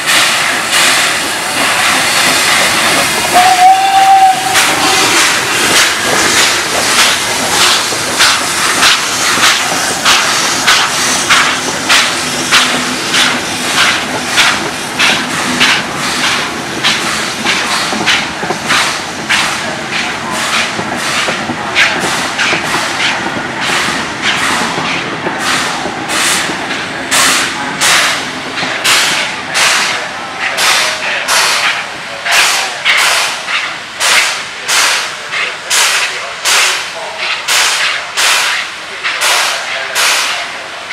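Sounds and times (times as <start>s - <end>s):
steam train hissing exhaust beats: 0.0s - 40.9s
train coaches rolling: 0.0s - 40.9s.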